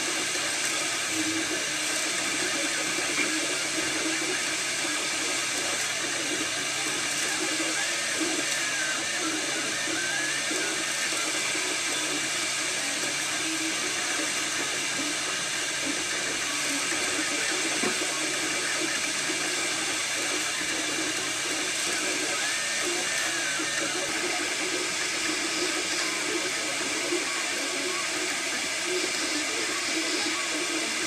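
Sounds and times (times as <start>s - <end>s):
cooling fans whirring: 0.0s - 31.0s
stepper motors whining: 0.0s - 31.0s.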